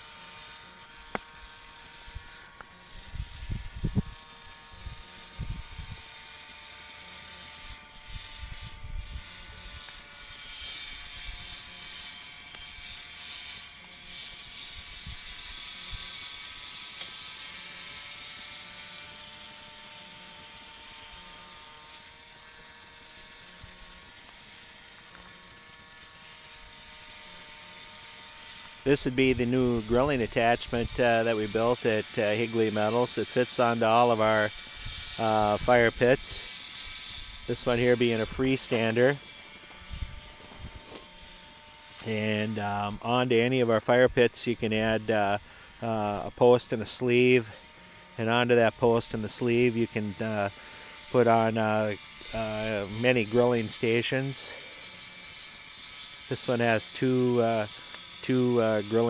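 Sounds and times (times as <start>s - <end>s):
small electric motor whining: 0.0s - 59.0s.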